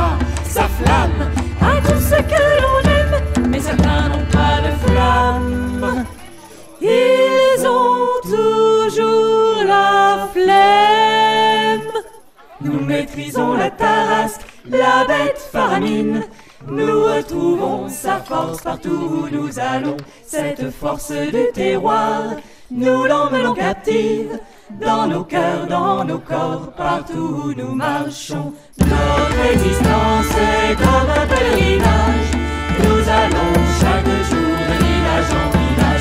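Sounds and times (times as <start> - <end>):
group of voices singing: 0.0 - 36.0.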